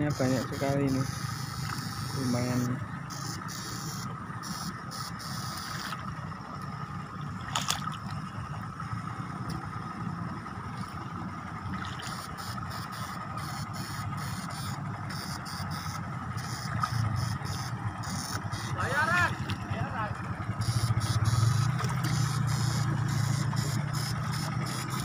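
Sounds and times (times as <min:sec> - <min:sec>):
electrical hum with high whine: 0:00.0 - 0:25.0.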